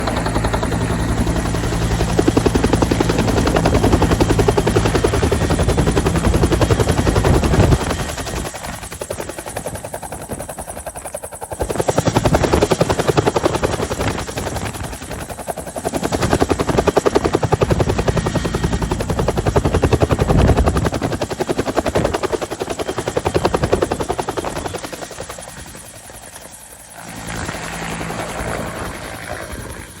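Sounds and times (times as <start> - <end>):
helicopter engine hum: 0.0 - 30.0
helicopter rotor beating: 0.0 - 30.0.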